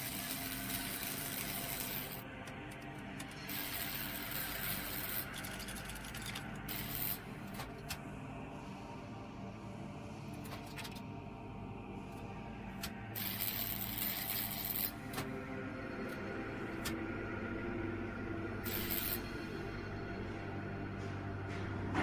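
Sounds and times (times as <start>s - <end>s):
machinery clicking and whirring: 0.0s - 8.3s, 10.0s - 22.0s
low musical drone: 0.0s - 22.0s.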